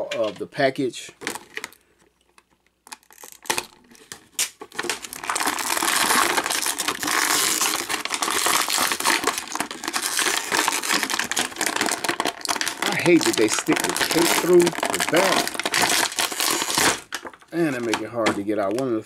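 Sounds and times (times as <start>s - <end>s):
plastic packaging crinkling: 1.2s - 19.0s.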